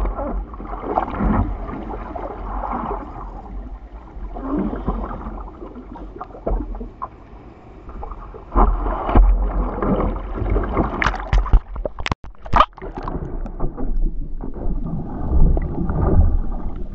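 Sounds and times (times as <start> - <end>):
water splashing around surfboard: 0.0 - 16.9.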